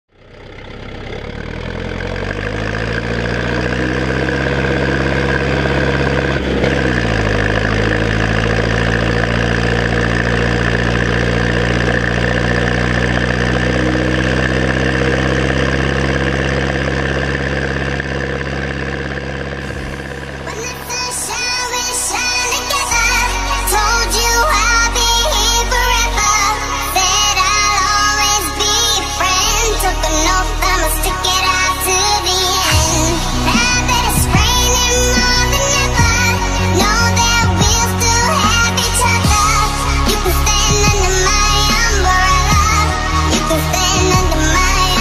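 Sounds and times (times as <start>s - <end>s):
tractor diesel engine running: 0.1s - 45.0s.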